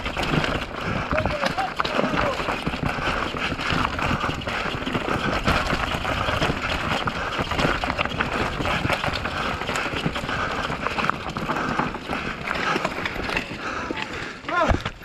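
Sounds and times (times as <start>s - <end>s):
bike rattling over rocks: 0.0s - 15.0s.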